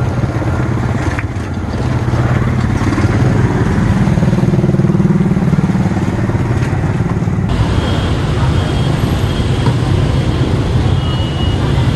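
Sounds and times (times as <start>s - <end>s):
idling motorbikes and cars: 0.0s - 11.9s.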